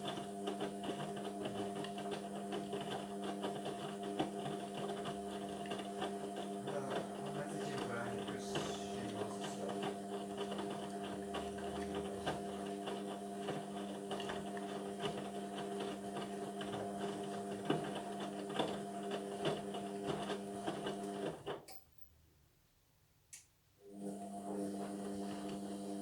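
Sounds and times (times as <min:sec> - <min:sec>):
washing machine drum motor hum: 0:00.0 - 0:21.2.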